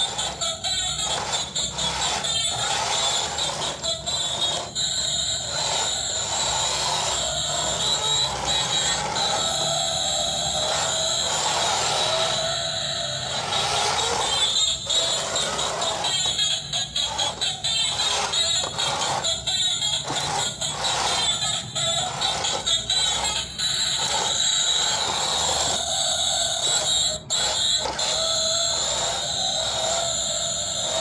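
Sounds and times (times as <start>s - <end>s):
toy truck electric motor whine: 0.0s - 31.0s.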